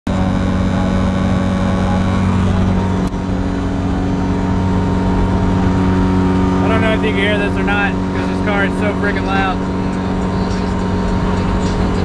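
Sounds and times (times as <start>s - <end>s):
car engine drone in cabin: 0.0s - 12.0s
low road rumble: 0.0s - 12.0s.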